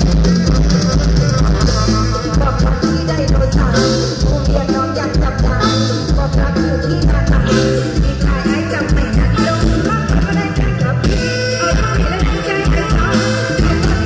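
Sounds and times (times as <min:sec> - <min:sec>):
drum kit beat and bass: 0:00.0 - 0:14.0
person singing: 0:01.7 - 0:14.0.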